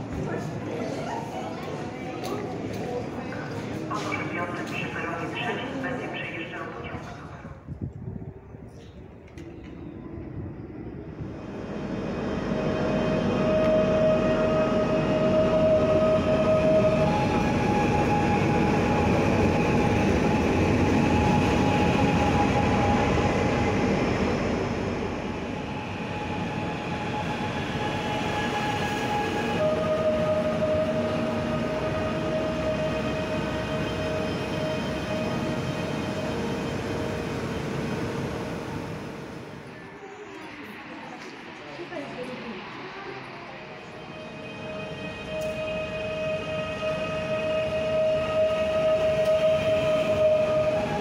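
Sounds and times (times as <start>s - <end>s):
train running on rails: 0.0s - 51.0s.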